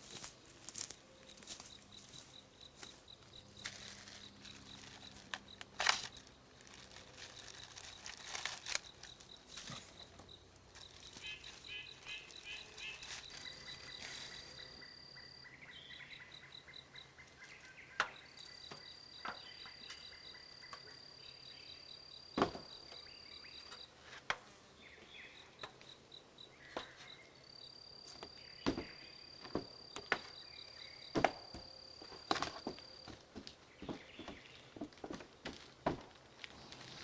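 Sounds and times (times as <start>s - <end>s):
insects chirping: 0.0s - 37.0s
insects trilling: 0.0s - 37.0s.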